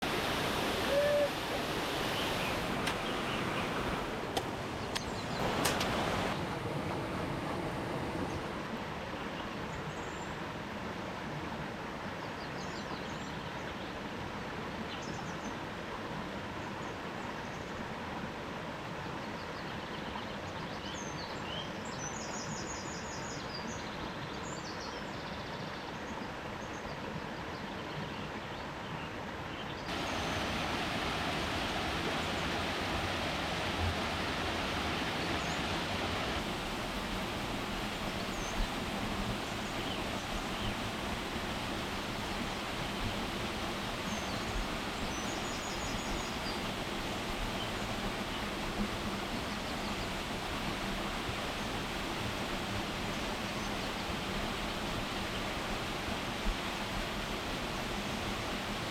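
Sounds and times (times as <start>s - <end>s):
steady outdoor hiss: 0.0s - 58.9s.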